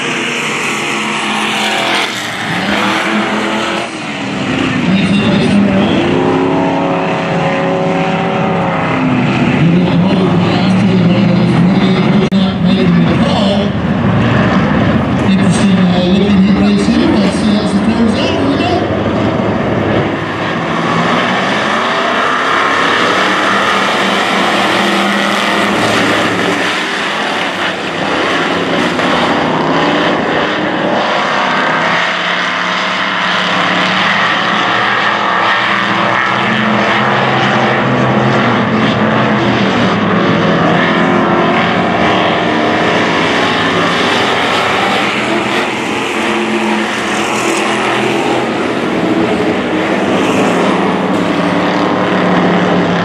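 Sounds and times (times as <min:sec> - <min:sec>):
racing car engines droning: 0:00.0 - 0:53.0.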